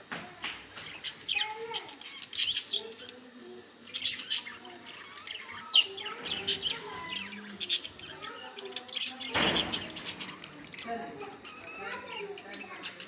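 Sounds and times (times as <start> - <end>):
budgerigars chirping and chattering: 0.7 - 13.0.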